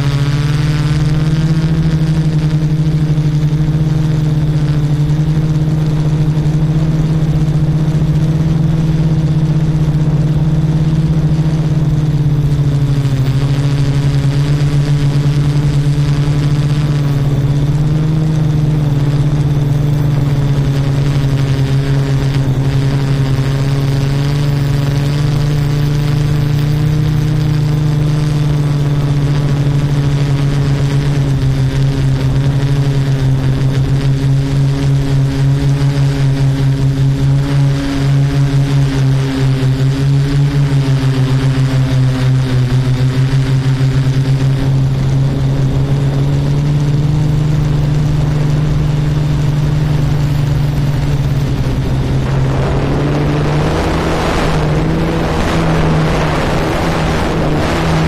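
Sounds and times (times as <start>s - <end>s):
drone propellers humming: 0.0s - 58.0s
wind rushing over microphone: 0.0s - 58.0s.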